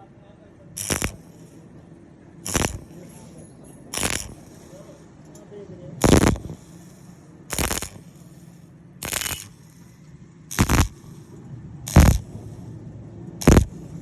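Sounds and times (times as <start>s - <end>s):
arc welding crackle: 0.8s - 1.7s, 2.4s - 5.4s, 6.0s - 12.8s, 13.4s - 14.0s.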